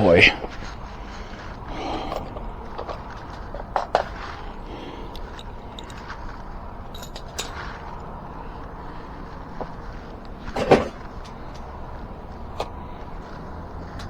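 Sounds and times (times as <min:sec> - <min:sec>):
metal tools clicking and clanking: 0:00.1 - 0:11.7.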